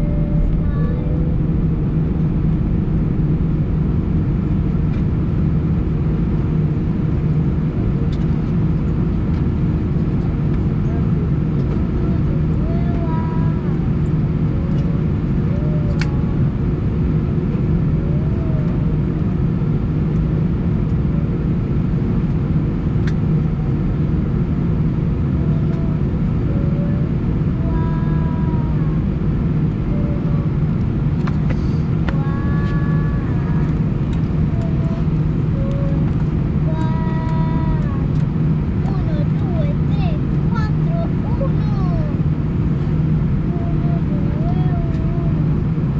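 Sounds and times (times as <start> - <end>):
jet engines idling in cabin: 0.0 - 45.9.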